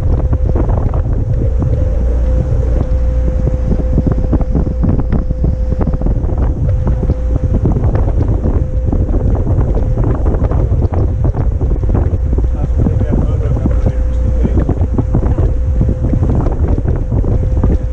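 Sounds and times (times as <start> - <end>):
low rumble: 0.0 - 17.9
steady hum: 0.0 - 17.9
wind buffeting microphone: 0.0 - 17.9.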